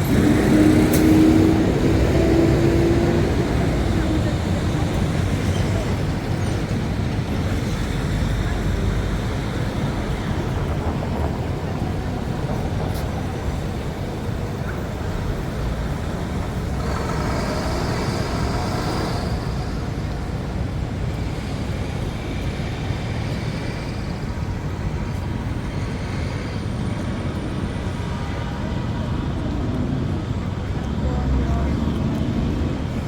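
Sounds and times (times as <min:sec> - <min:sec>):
road traffic rumble: 0:00.0 - 0:33.0
voices of passers-by: 0:00.0 - 0:33.0.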